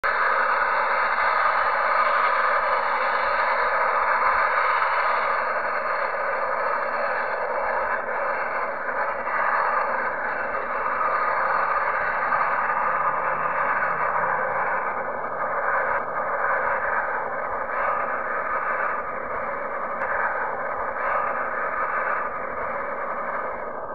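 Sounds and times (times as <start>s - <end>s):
distant jet engines roaring: 0.0s - 23.9s.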